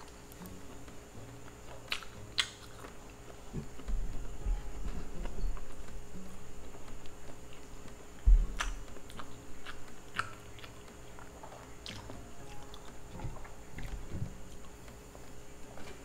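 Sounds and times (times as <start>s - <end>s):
chewing food: 0.0s - 16.0s.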